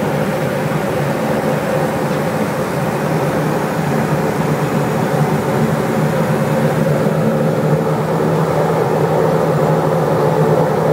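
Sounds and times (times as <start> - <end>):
propeller plane engine drone: 0.0 - 10.9.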